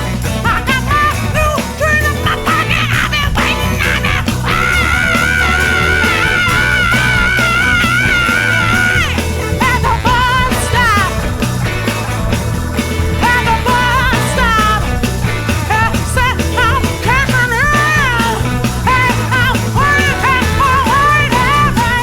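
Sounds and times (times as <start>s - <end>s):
bending lead guitar line: 0.0s - 22.0s
blues-rock band playing: 0.0s - 22.0s.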